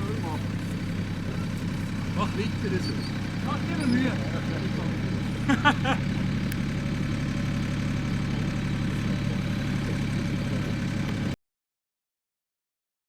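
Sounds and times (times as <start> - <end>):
model airplane engine running: 0.0 - 11.4.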